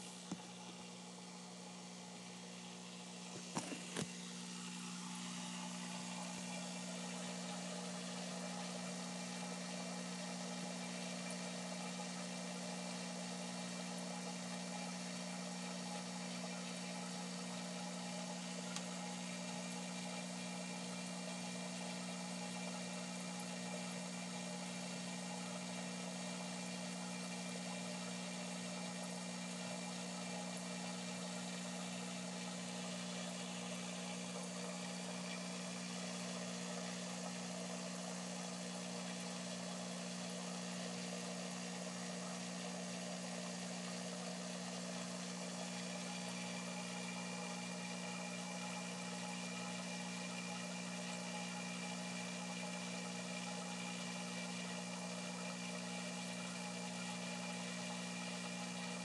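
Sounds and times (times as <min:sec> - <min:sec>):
water pump humming and hissing: 0:00.0 - 0:59.0.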